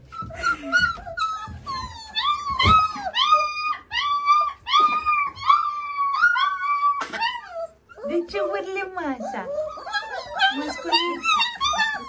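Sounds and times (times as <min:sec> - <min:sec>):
puppy whining cries: 0:00.0 - 0:12.0.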